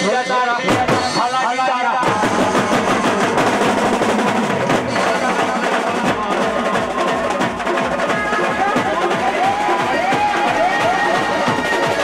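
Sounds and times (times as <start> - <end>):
fast dense drumming: 0.7 - 1.4, 2.0 - 12.0.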